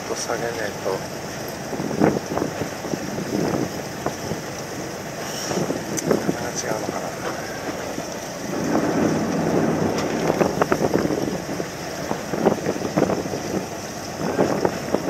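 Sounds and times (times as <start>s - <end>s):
water slapping against hull: 0.0s - 15.0s
wind buffeting microphone: 0.0s - 15.0s.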